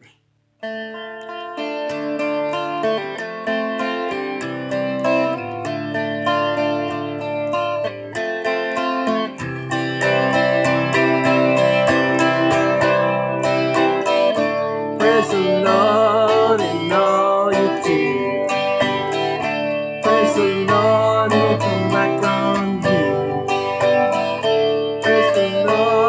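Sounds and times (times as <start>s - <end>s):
guitar picked notes and chords: 0.0s - 26.0s.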